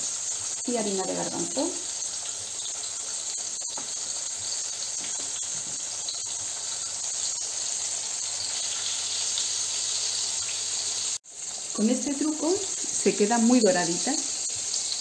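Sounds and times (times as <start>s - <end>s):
eggplant frying in oil: 0.0s - 15.0s.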